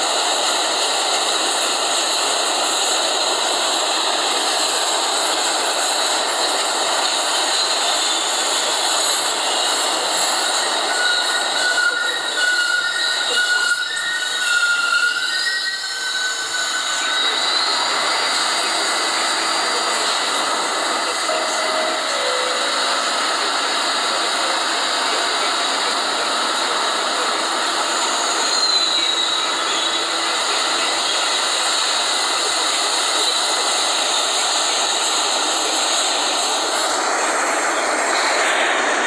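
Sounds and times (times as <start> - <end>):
high wheel squeal: 0.0 - 39.0
subway train rail noise: 0.0 - 39.0.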